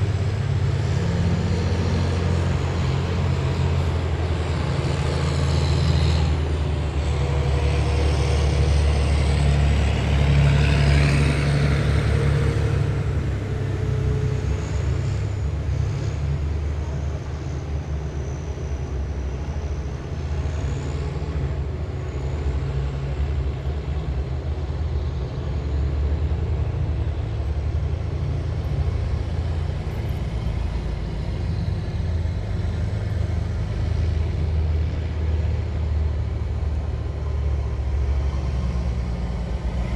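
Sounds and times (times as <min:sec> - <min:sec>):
heavy diesel vehicles droning: 0:00.0 - 0:39.9.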